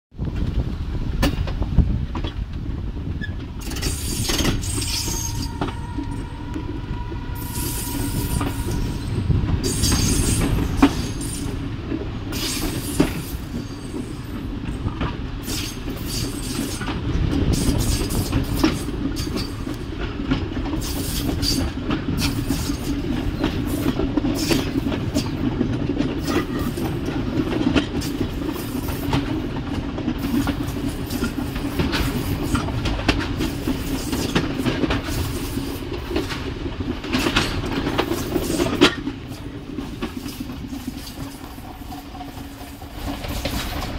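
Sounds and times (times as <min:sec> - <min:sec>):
train rumble: 0:00.1 - 0:43.9
wheels clacking over rails: 0:00.3 - 0:43.9.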